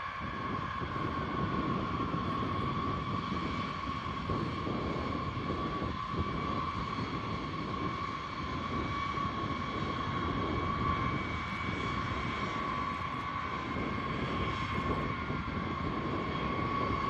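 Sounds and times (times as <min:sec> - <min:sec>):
jet engines whining and rumbling: 0:00.0 - 0:17.0.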